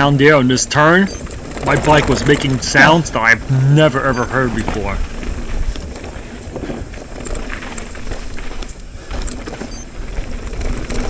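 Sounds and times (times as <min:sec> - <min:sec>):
bike rattling and clattering: 0:00.0 - 0:11.0
tyres on dirt: 0:00.0 - 0:11.0.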